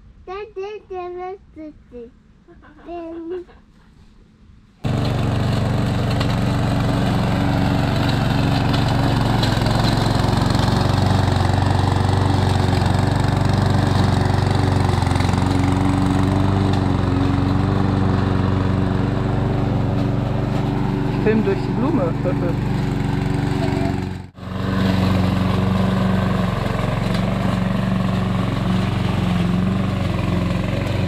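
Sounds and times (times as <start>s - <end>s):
small petrol engine running: 4.8s - 31.0s.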